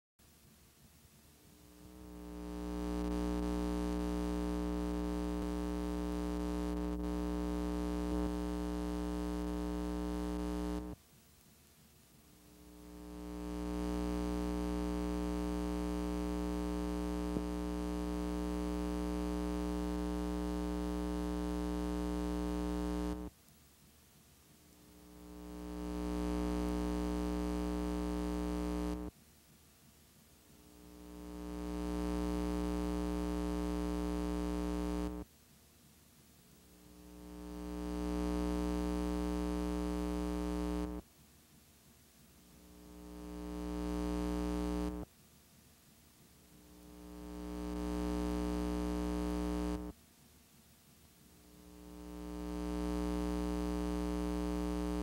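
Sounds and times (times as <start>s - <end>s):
electrical mains hum: 1.3s - 11.0s, 12.3s - 23.3s, 24.6s - 29.1s, 30.5s - 35.3s, 36.6s - 41.0s, 42.5s - 45.1s, 46.5s - 49.9s, 51.3s - 55.0s.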